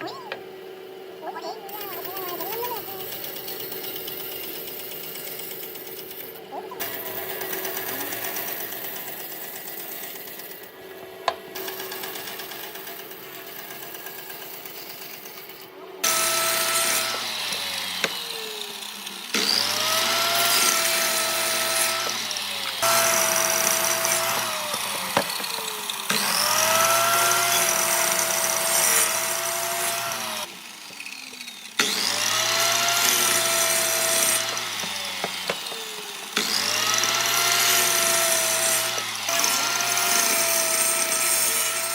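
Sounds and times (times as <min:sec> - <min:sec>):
power tool motor whining: 0:00.0 - 0:41.9.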